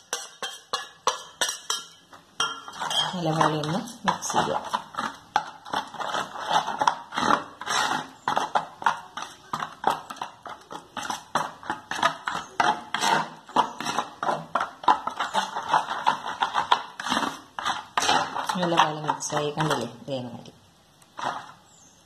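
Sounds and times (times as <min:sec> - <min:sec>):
metal spoon stirring batter in bowl: 0:00.0 - 0:22.0.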